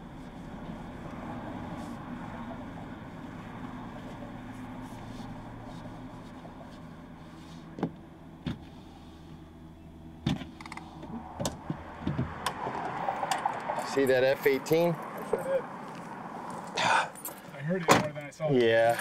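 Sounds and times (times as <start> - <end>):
muffled traffic hum: 0.0 - 19.0.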